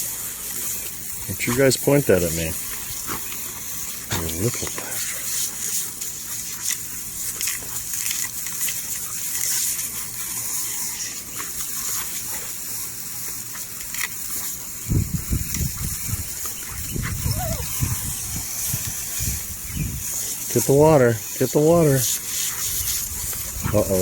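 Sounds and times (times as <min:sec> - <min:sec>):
lawn sprinkler hissing: 0:00.0 - 0:24.0.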